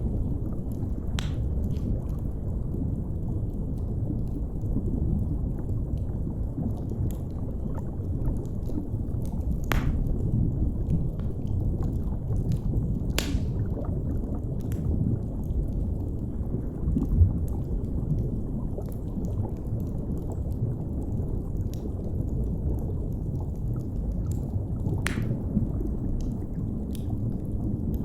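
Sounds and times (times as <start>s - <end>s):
underwater rumble and gurgle: 0.0s - 28.0s
wood fire crackling: 0.0s - 28.0s.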